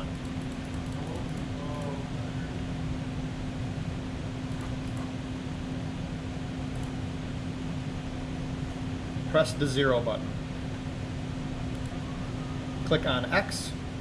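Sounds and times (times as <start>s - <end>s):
ventilation fans humming: 0.0s - 14.0s.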